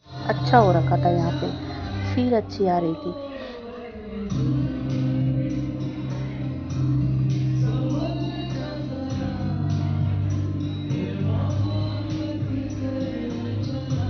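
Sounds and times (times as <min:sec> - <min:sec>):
amplified backing music with beat: 0:00.0 - 0:14.0
man singing into microphone: 0:00.0 - 0:14.0.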